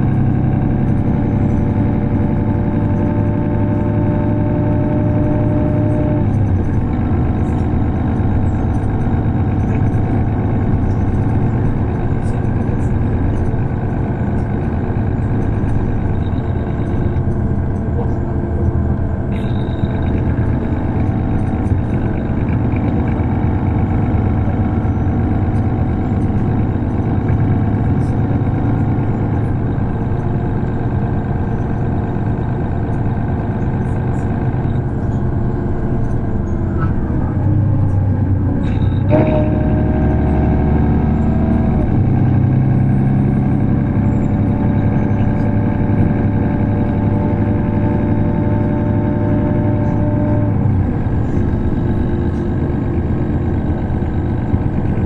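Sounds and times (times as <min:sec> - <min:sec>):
bus diesel engine: 0:00.0 - 0:55.0.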